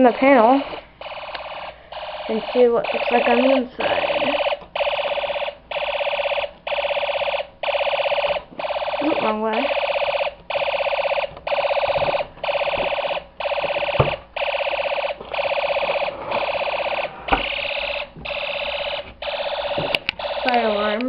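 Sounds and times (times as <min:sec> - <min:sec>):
fire alarm horn buzzing: 0:00.0 - 0:21.0.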